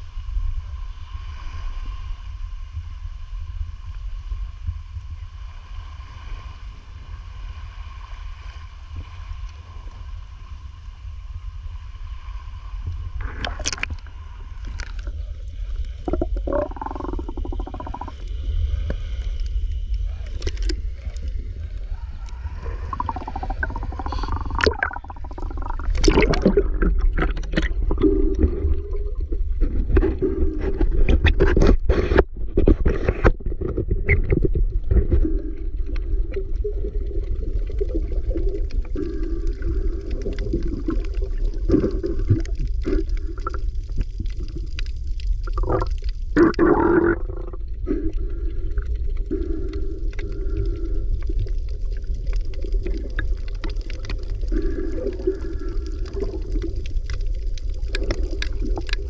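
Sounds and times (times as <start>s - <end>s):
faint steady hum: 0.0s - 59.0s
low rumble of moving water: 0.0s - 59.0s.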